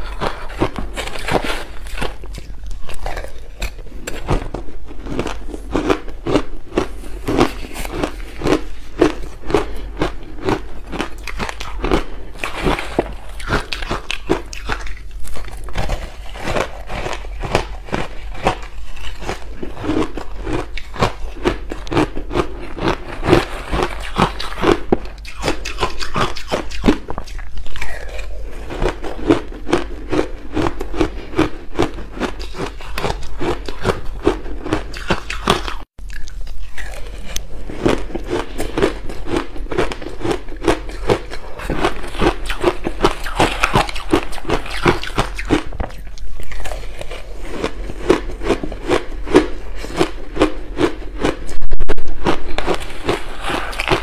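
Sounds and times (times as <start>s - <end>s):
ice crunching between teeth: 0.0s - 54.0s.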